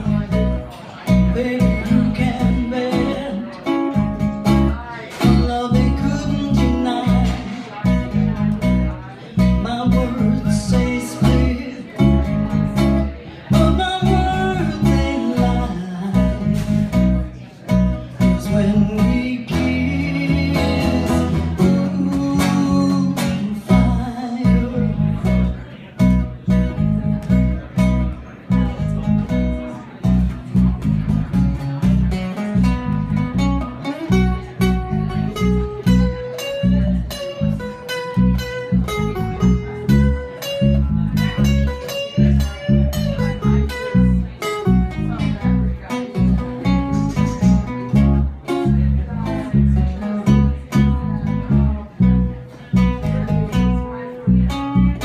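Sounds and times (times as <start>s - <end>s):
pulsing bass: 0.0s - 3.3s, 4.0s - 55.0s
guitar melody: 0.0s - 55.0s
strummed guitar chords: 0.0s - 55.0s.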